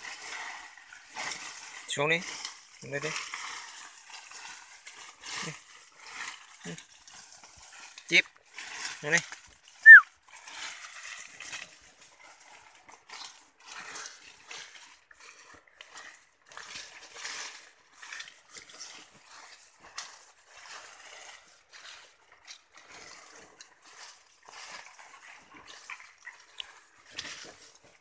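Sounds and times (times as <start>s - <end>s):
rustling of leaves and sacking: 0.0s - 28.0s.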